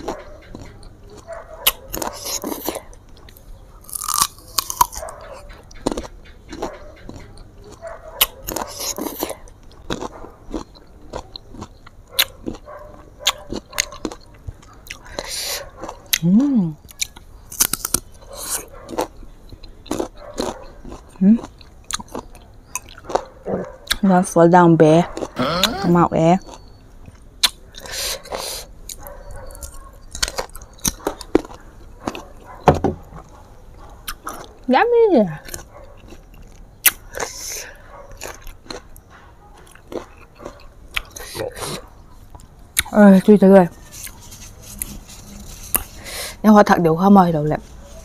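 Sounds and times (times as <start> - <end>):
crunchy chewing of mango: 0.0 - 24.4, 25.0 - 48.0.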